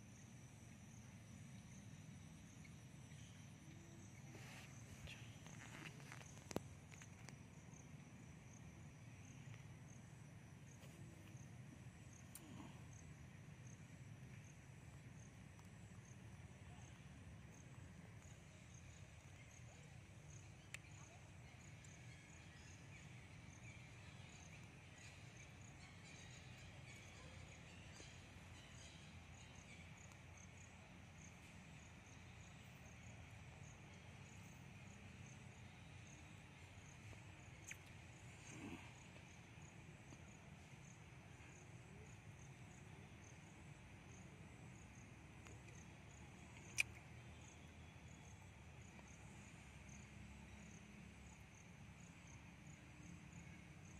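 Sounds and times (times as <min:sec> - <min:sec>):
high pulsing insect call: 0:00.0 - 0:53.9
insects chirring: 0:00.0 - 0:53.9.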